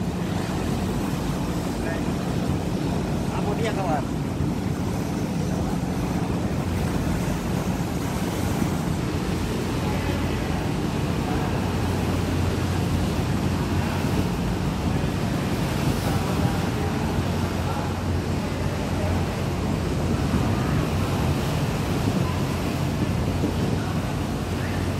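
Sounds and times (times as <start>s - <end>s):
rough choppy sea: 0.0s - 24.9s
ship engines humming: 0.0s - 24.9s
wind buffeting microphone: 0.0s - 24.9s.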